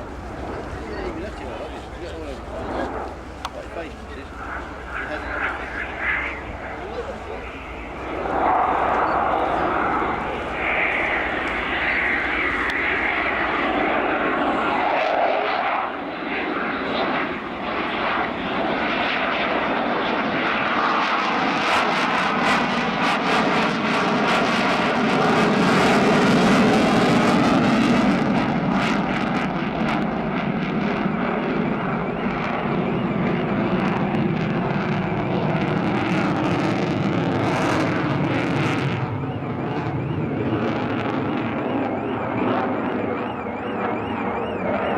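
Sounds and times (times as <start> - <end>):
jet crackling: 0.0 - 18.7, 25.7 - 44.9
jet engines flying past: 0.0 - 44.9.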